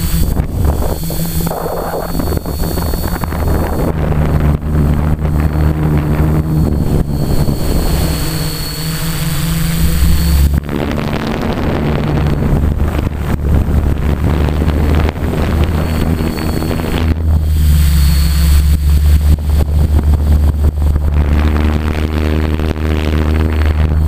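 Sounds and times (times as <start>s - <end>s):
drone propellers buzzing: 0.0s - 24.0s
thin high whine: 0.0s - 24.0s.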